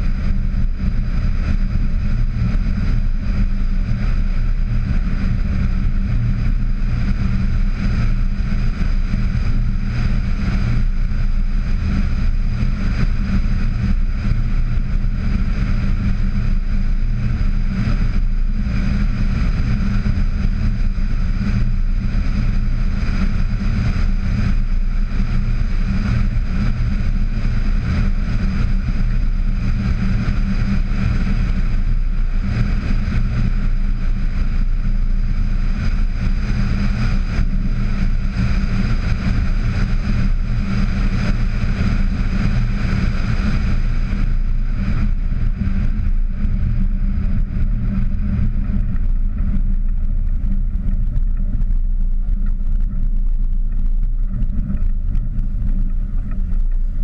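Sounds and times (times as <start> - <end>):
car running: 0.0 - 57.0
wind and road noise rumble: 0.0 - 57.0.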